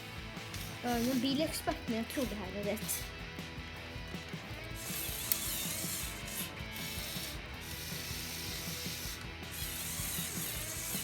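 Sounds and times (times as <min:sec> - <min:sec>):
plastic gears clicking and whirring: 0:00.4 - 0:02.2, 0:04.0 - 0:11.0.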